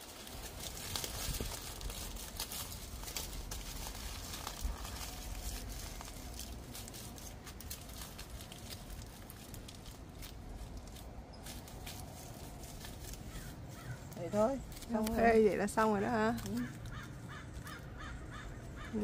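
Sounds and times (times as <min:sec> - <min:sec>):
aluminium foil crinkling: 0:00.0 - 0:18.4.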